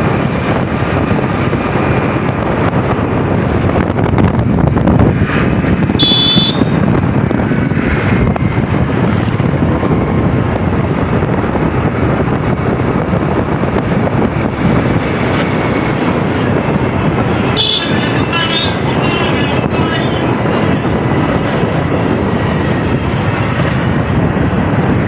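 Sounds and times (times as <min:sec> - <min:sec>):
moving vehicle rumble: 0:00.0 - 0:25.0
wind buffeting microphone: 0:00.0 - 0:25.0.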